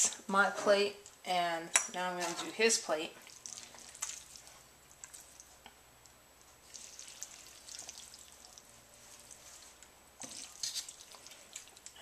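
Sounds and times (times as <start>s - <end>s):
food crackling: 1.9s - 12.0s.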